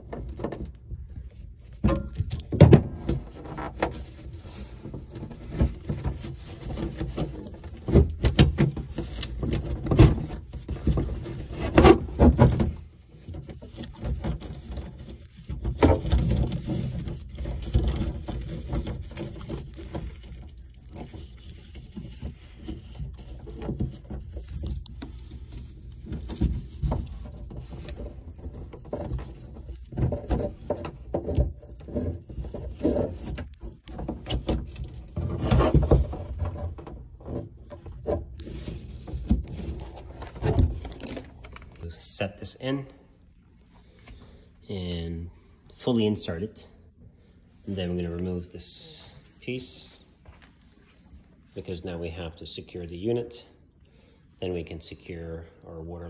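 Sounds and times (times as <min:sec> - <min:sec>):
knocks rubbing and rustling: 0:00.0 - 0:44.6, 0:46.3 - 0:52.2.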